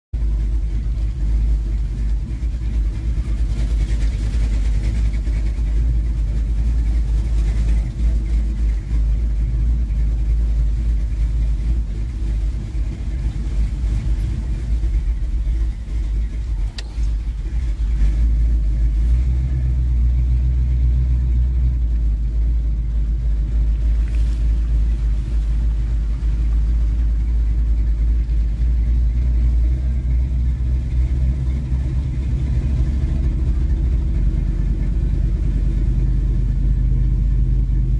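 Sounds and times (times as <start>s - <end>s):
car engine and road rumble: 0.1s - 37.9s.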